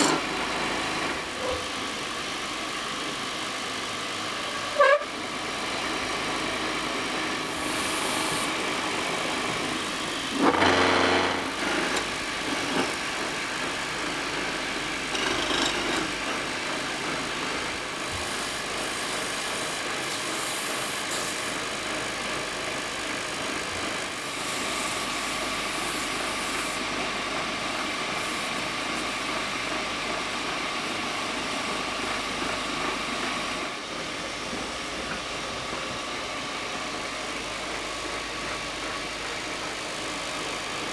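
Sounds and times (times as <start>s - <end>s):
wood lathe running: 0.0s - 40.9s.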